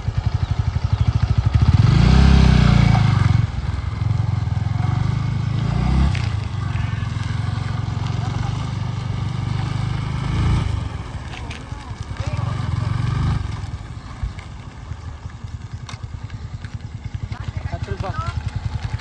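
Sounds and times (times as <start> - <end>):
motorcycle engine pulsing and revving: 0.0 - 19.0.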